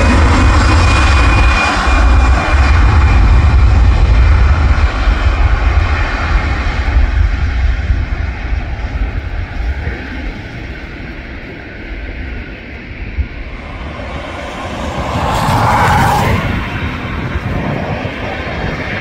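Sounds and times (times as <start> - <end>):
airliner engine roar: 0.0 - 19.0.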